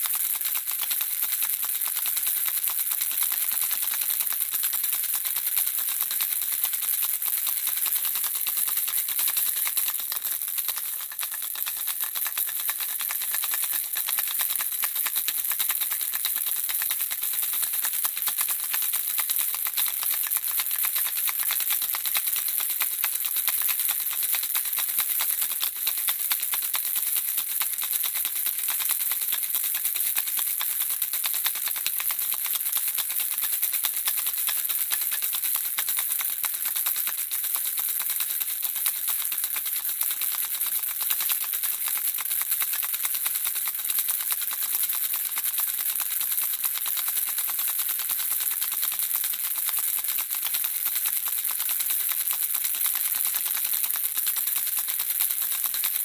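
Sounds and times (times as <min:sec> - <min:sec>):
baby rattle shaken: 0:00.0 - 0:56.0.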